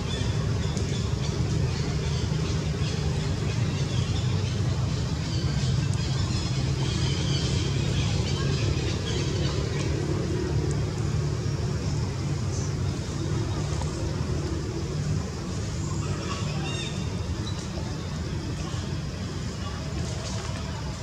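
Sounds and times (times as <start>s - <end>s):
faint voices: 0.0s - 21.0s
motor vehicle rumble: 0.0s - 21.0s.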